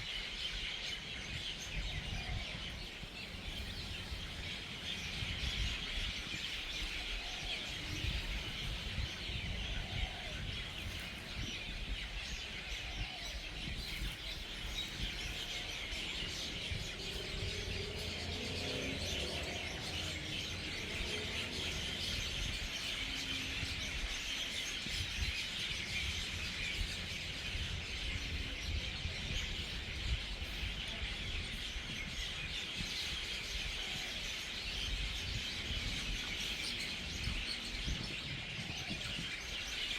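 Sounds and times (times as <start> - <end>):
flock of birds chattering: 0.0 - 39.9.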